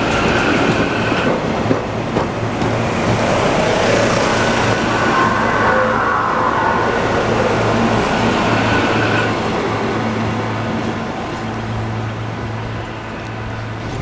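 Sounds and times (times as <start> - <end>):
train low hum: 0.0 - 14.0
train wheels on rails: 0.0 - 14.0.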